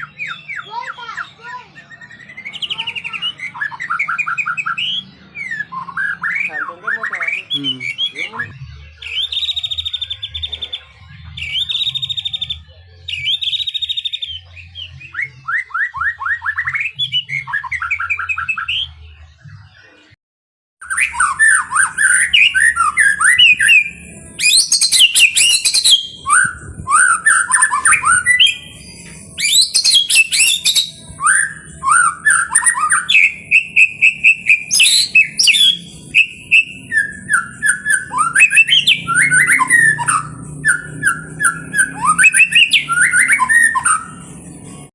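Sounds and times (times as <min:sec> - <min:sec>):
songbird singing trills: 0:00.0 - 0:19.1, 0:20.8 - 0:44.9.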